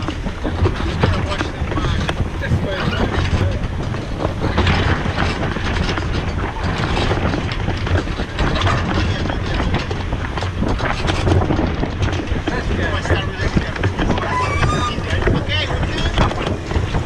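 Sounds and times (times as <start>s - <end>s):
water rushing past hull: 0.0s - 17.0s
wind buffeting microphone: 0.0s - 17.0s.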